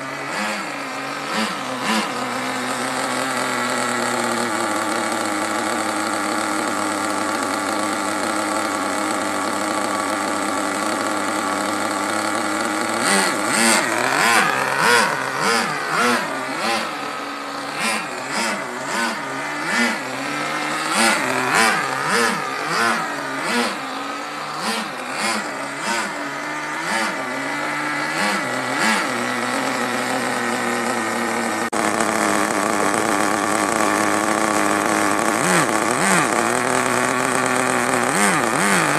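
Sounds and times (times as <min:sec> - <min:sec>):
small nitro engine revving: 0:00.0 - 0:38.9.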